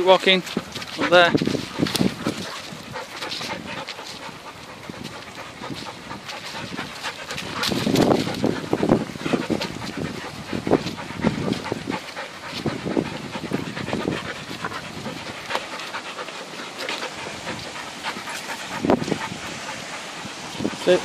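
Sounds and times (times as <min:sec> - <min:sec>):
dogs panting: 0:00.0 - 0:21.0.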